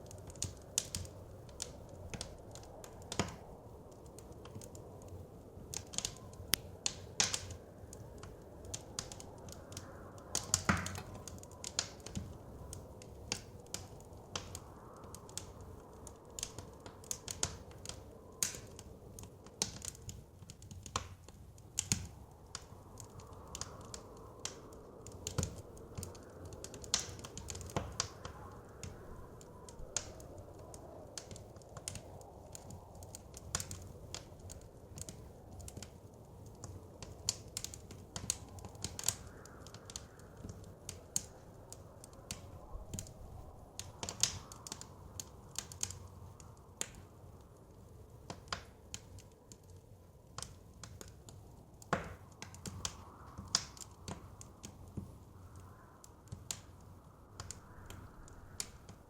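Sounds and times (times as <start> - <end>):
soft wind whooshing: 0.0 - 59.0
wood fire crackling and popping: 0.0 - 59.0.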